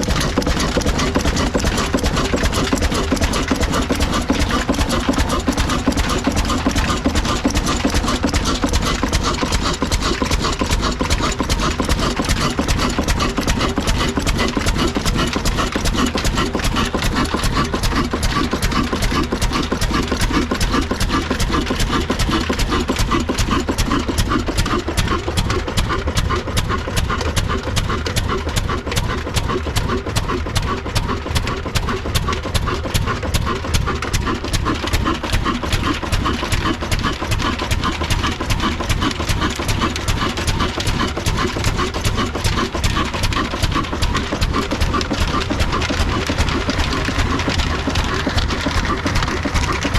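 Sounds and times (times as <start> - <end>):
single-cylinder diesel engine running: 0.0 - 49.9.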